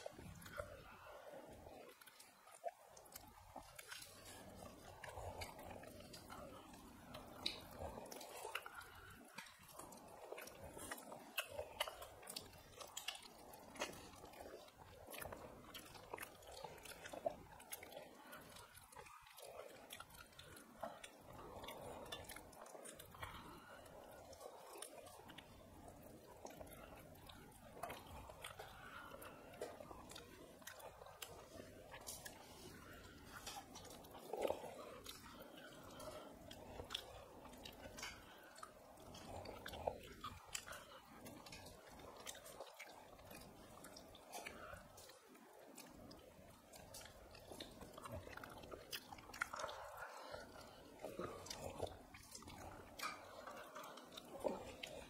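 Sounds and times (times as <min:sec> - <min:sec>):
chewing and lip-smacking: 0:00.0 - 0:55.0.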